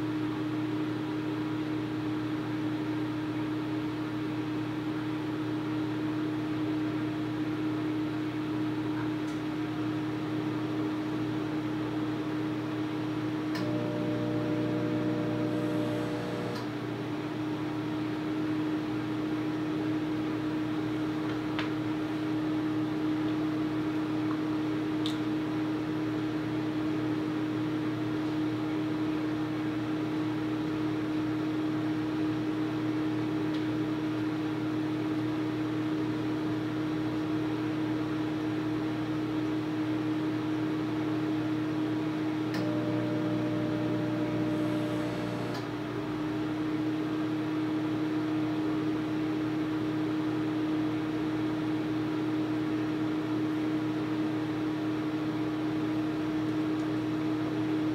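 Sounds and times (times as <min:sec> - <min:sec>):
microwave oven humming: 0:00.0 - 0:57.9.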